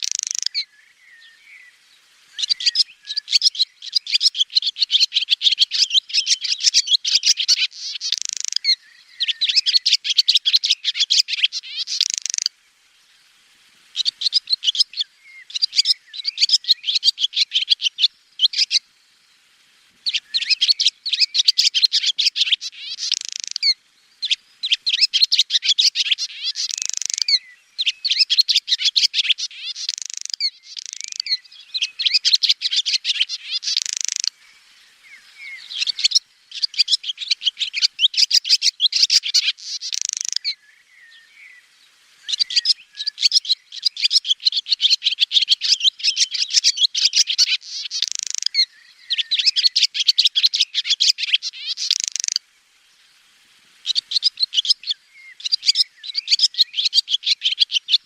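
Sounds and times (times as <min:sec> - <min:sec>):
swallow twittering: 0:00.0 - 0:12.5, 0:13.9 - 0:18.8, 0:20.0 - 0:41.6, 0:42.2 - 0:52.4, 0:53.8 - 0:58.0.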